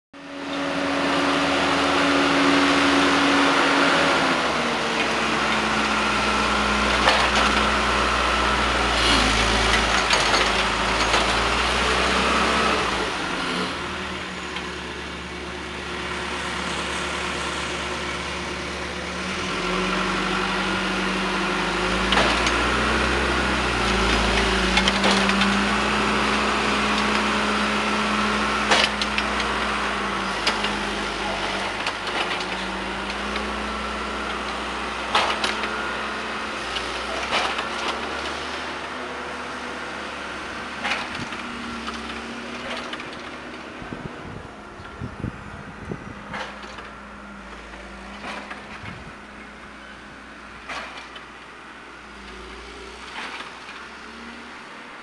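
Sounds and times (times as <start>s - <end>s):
diesel engine revving: 0.2s - 55.0s.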